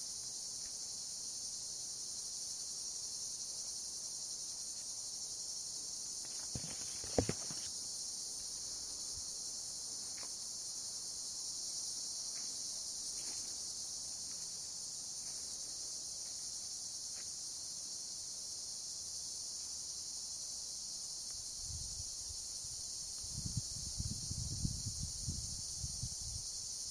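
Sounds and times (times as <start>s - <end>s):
high-pitched insect chorus: 0.0s - 26.9s.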